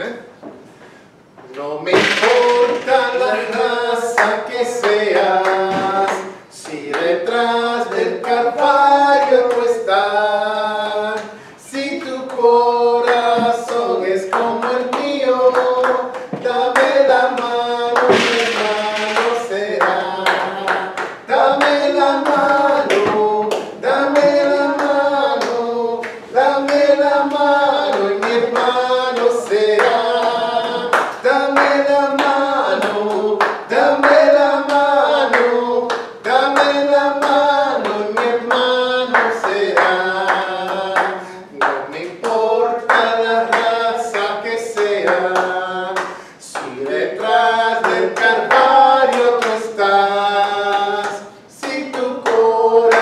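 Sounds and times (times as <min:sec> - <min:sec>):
group singing with male lead: 0:01.9 - 0:53.0
rhythmic hand clapping: 0:01.9 - 0:53.0.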